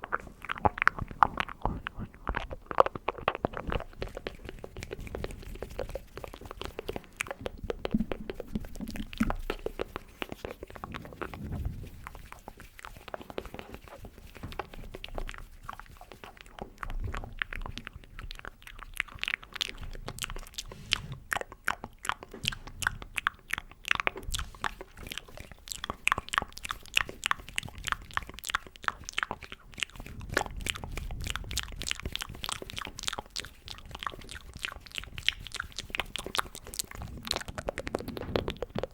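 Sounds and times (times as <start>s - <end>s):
wet mouth clicks and smacks: 0.0s - 38.9s.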